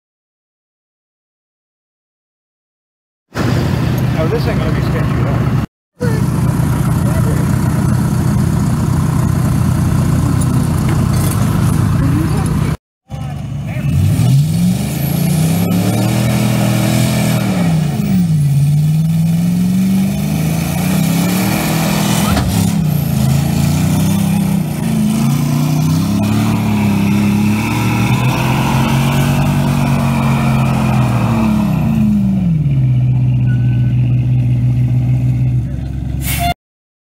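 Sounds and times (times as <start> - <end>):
tractor engine revving: 3.4 - 36.5.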